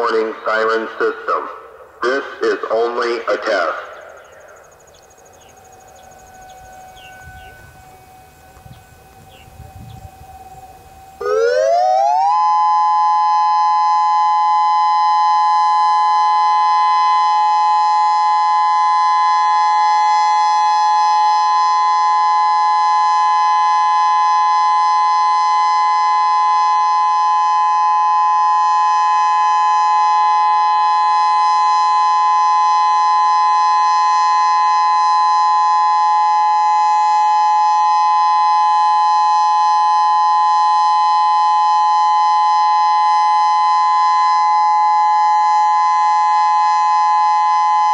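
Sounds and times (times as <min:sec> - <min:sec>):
outdoor warning siren steady tone: 0:02.9 - 0:47.9.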